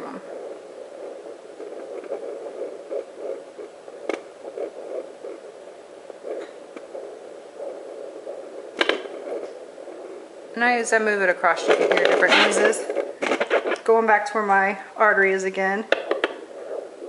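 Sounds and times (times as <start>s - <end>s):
doppler heartbeat whooshing: 0.0s - 13.6s, 15.9s - 17.0s.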